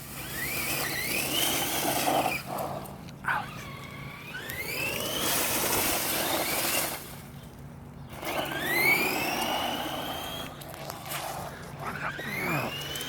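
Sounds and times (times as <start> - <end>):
electric motor whining: 0.1 - 7.1, 8.2 - 13.0.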